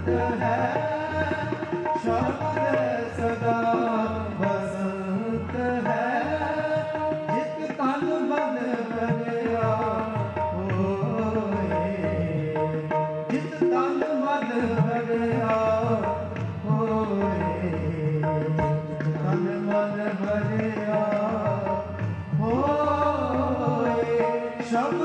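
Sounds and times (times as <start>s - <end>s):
tabla: 0.0s - 25.0s.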